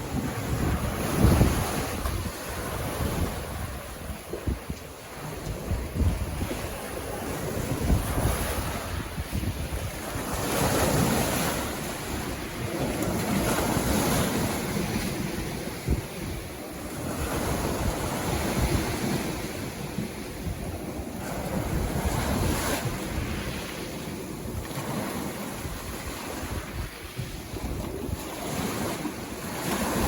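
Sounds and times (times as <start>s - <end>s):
sea waves breaking on shore: 0.0s - 30.0s
wind rumble on microphone: 0.0s - 30.0s.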